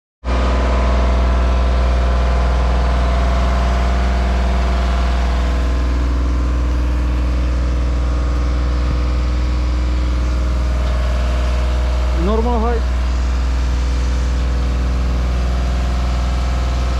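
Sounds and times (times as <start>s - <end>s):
loud mechanical drone: 0.2s - 16.9s.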